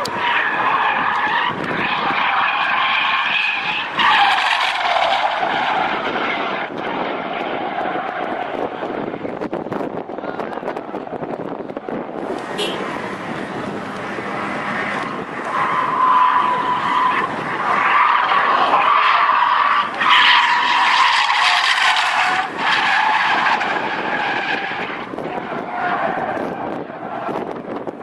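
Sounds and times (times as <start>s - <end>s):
car tyres squealing: 0.0s - 28.0s.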